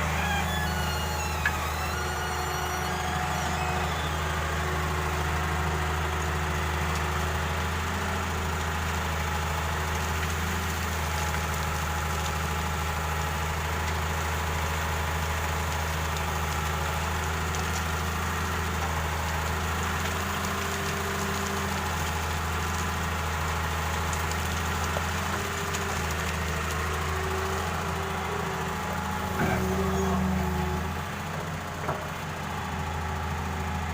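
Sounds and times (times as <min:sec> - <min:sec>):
heavy diesel engine droning: 0:00.0 - 0:33.9.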